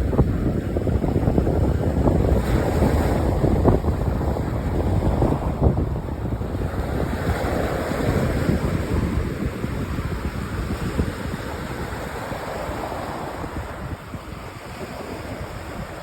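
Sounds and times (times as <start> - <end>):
waves washing onto beach: 0.0 - 16.0.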